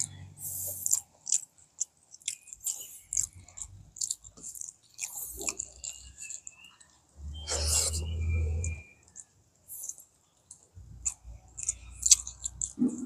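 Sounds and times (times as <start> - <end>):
chewing with mouth smacks: 0.0 - 13.0.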